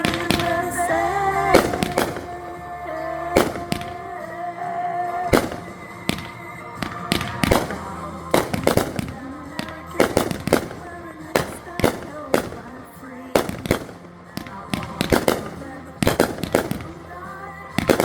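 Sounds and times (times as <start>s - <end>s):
fireworks banging: 0.0s - 18.0s
music holding a long note: 0.0s - 18.0s.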